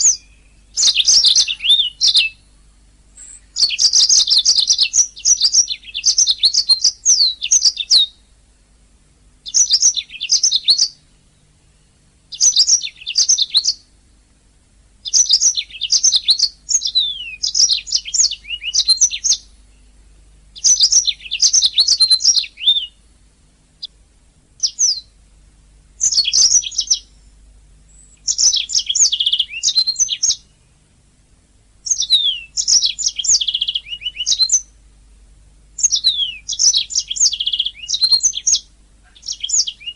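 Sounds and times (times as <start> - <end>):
canary singing: 0.0 - 2.6, 3.2 - 8.4, 9.4 - 14.0, 15.0 - 25.2, 26.0 - 30.9, 31.8 - 34.8, 35.8 - 39.9.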